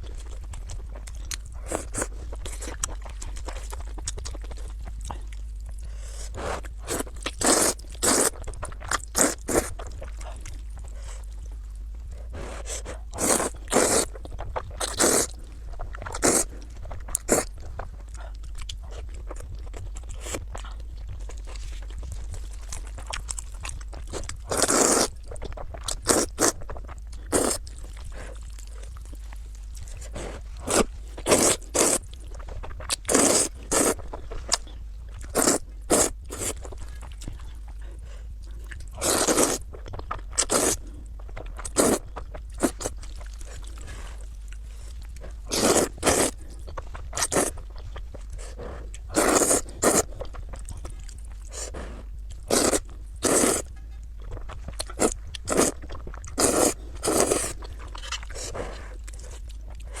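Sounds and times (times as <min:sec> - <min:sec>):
crunching and chewing food: 0:00.0 - 1:00.0.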